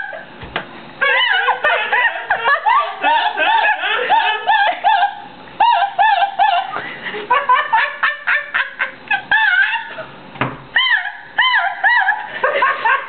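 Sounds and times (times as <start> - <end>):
woman's high squeaky laugh: 1.0 - 6.8, 7.4 - 10.1, 10.8 - 13.0.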